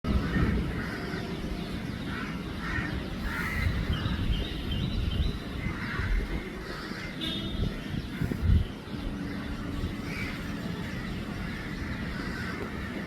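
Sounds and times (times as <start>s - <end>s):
birds making harsh calls: 0.1s - 13.0s.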